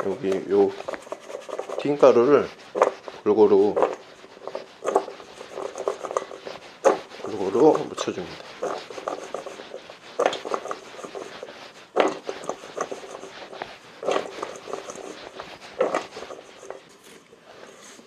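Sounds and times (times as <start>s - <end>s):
dry rustling: 0.0s - 17.2s.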